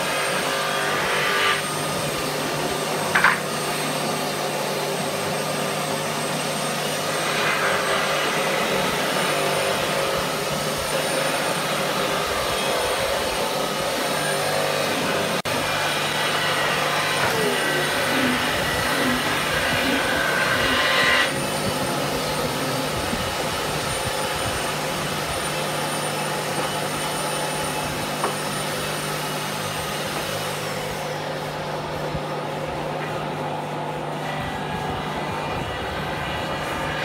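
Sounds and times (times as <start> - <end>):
electric motor humming: 0.0 - 37.0.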